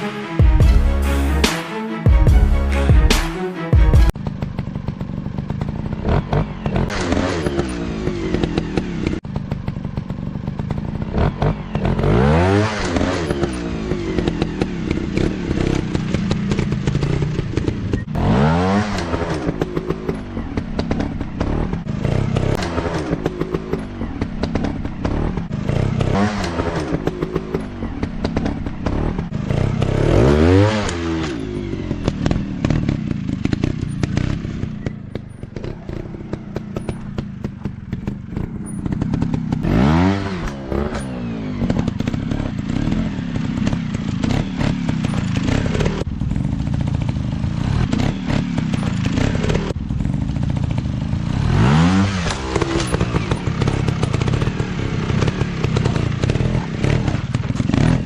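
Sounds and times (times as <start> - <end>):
motocross bike engines revving: 4.2 - 58.0.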